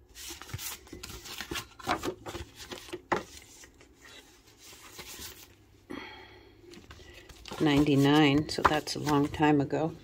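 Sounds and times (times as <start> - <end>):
paper leaflets rustling: 0.1 - 5.6, 6.8 - 9.6.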